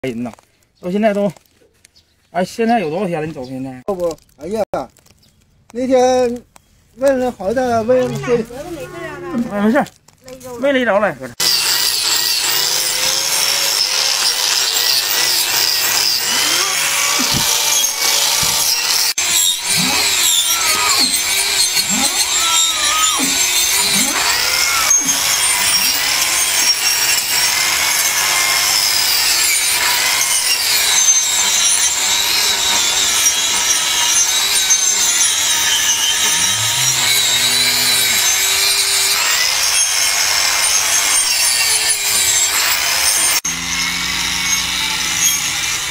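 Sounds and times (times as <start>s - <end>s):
angle grinder grinding hoof: 7.0s - 45.9s.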